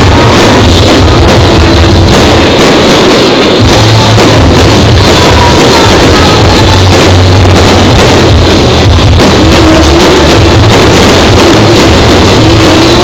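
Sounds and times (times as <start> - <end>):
very loud music: 0.0 - 13.0.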